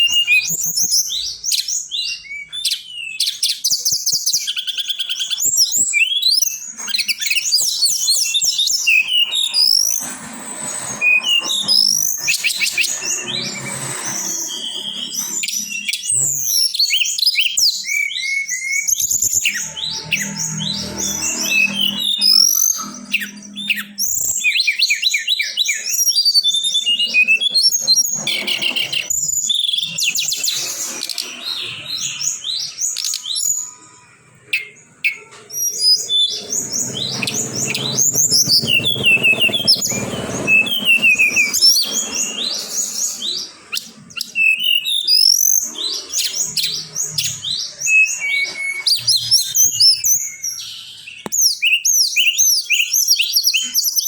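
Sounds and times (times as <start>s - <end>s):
songbird chirping and whistling: 0.0s - 54.0s.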